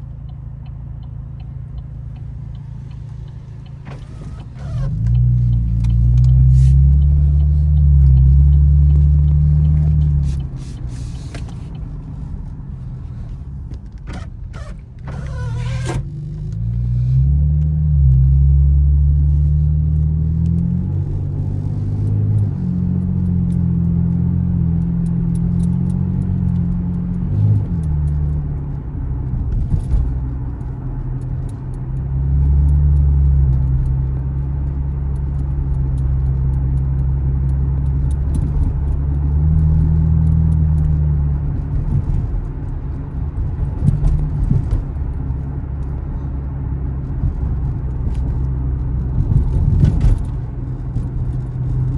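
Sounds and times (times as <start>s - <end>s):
car engine revving while driving: 0.0s - 51.9s.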